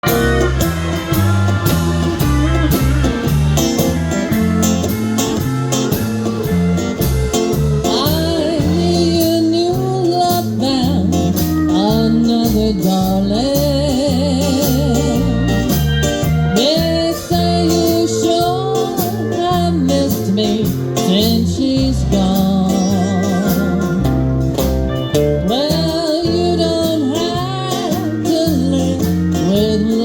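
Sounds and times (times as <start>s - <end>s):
bass guitar: 0.0s - 30.0s
drums keeping a steady beat: 0.0s - 30.0s
guitar: 0.0s - 30.0s.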